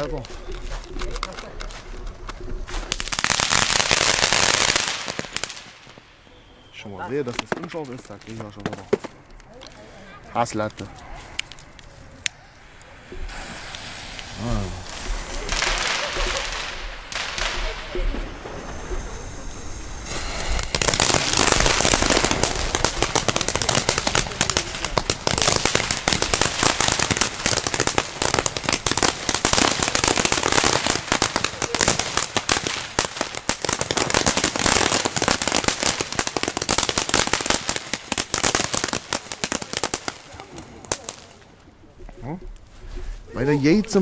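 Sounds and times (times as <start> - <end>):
firework fountain hissing and crackling: 0.0 - 42.0, 42.6 - 44.0.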